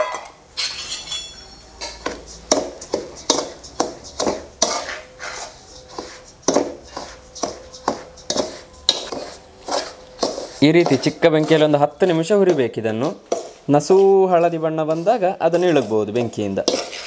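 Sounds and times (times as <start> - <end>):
metal ladle scraping metal pan: 0.6 - 17.0.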